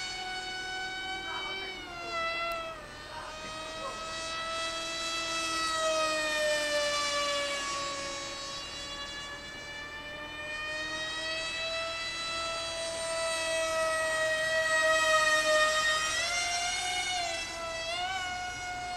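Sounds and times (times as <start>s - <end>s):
electric motor and propeller whining: 0.0s - 18.9s.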